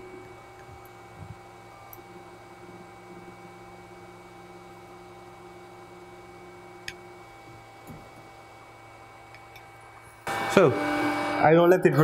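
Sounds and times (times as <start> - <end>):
cooling fan humming: 0.0 - 12.0.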